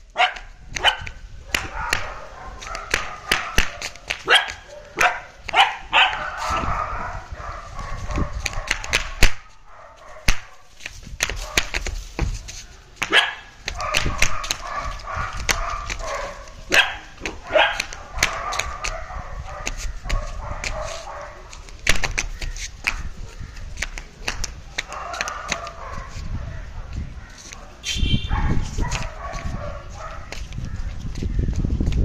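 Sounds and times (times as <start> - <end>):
puppies barking and yipping: 0.1 - 21.6, 24.7 - 27.7, 28.3 - 30.4.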